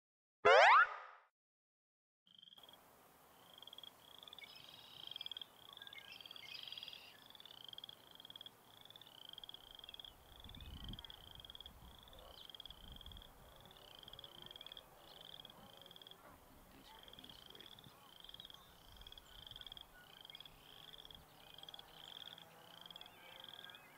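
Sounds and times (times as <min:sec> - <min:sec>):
frogs trilling: 0:03.4 - 0:16.2, 0:16.8 - 0:23.9.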